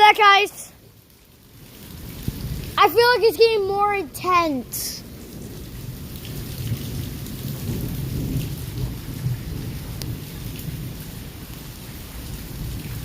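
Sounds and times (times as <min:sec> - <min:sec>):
heavy pouring rain: 0:00.0 - 0:13.0
thunder rumbling: 0:01.8 - 0:13.0.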